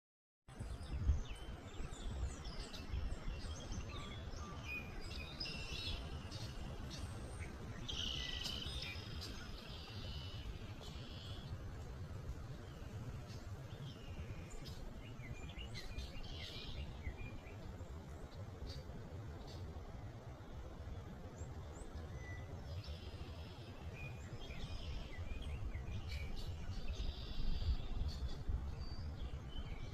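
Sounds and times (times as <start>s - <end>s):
low rumbling background noise: 0.5s - 29.9s
birds chirping: 0.6s - 29.9s.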